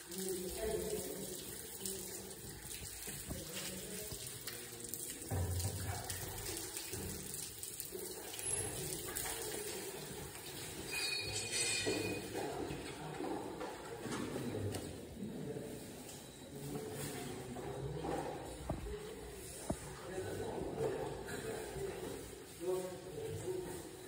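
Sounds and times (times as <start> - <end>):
water running: 0.0 - 24.0.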